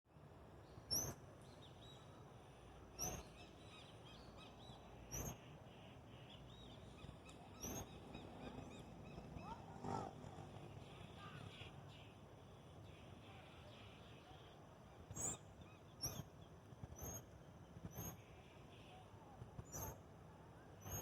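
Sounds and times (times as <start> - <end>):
soft bird chirping: 0.6 - 12.2, 12.8 - 20.0.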